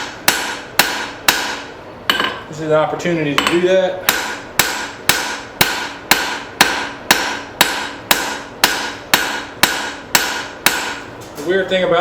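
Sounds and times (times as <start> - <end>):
hammer striking steel on anvil: 0.0 - 2.5, 3.4 - 11.1.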